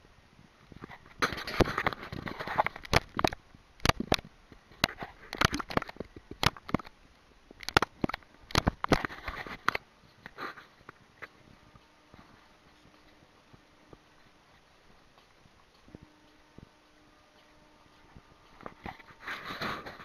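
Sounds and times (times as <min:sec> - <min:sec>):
rustling against camera: 0:00.7 - 0:20.0.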